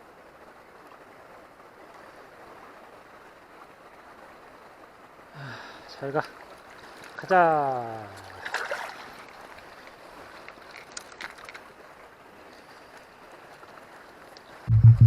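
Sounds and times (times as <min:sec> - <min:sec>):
stream flowing: 0:00.0 - 0:14.7.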